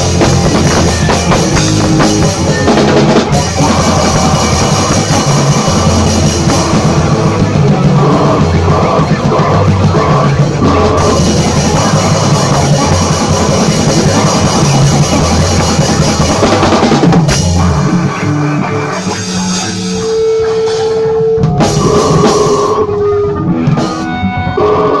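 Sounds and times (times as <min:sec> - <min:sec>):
drum kit playing: 0:00.0 - 0:25.0
electric bass: 0:00.0 - 0:25.0.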